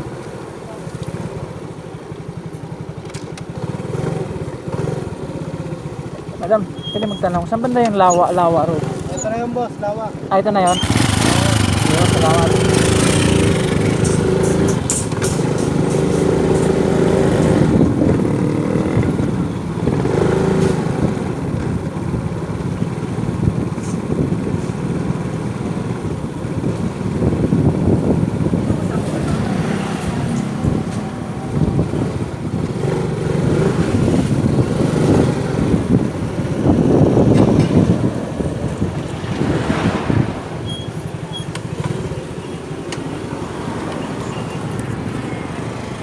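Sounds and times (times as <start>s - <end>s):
road and traffic rumble: 0.0s - 46.0s
motorcycle engine running: 0.7s - 39.5s.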